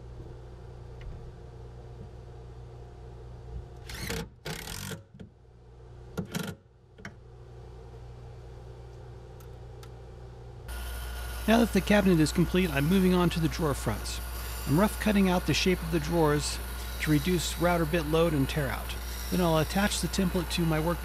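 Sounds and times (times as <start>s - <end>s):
steady low hum: 0.0s - 3.9s, 5.3s - 21.0s.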